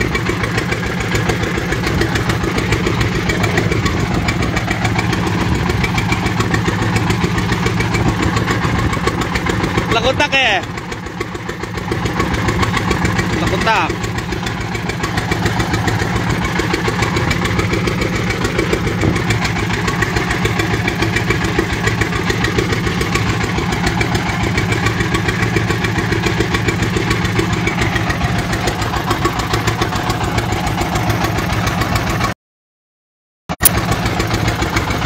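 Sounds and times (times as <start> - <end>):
boat engine chugging: 0.0 - 32.4, 33.6 - 35.0.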